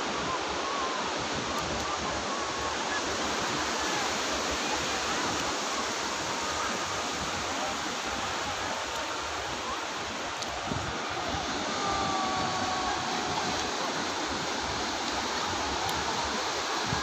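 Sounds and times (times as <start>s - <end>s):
sea surf washing onto beach: 0.0s - 17.0s.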